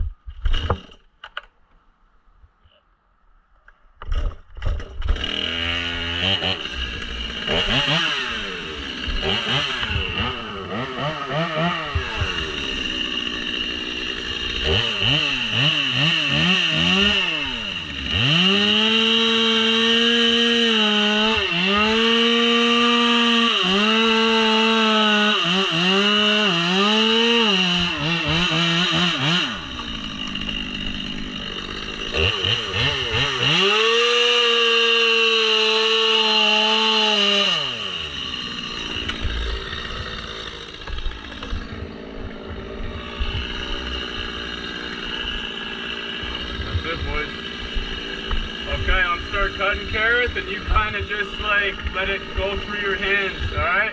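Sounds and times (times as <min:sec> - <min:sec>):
chainsaw revving: 0:04.1 - 0:53.9.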